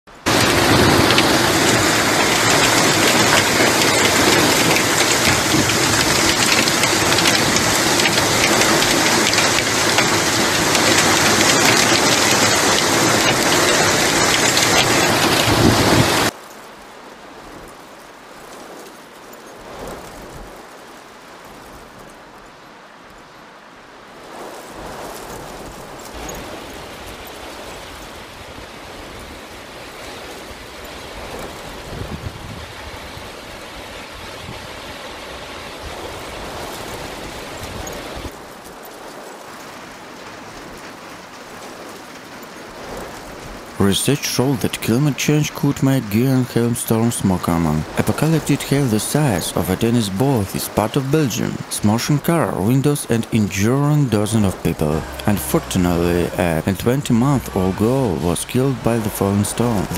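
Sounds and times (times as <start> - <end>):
hail pelting down: 0.1 - 22.3, 24.1 - 59.9
steady rain downpour: 0.1 - 59.9.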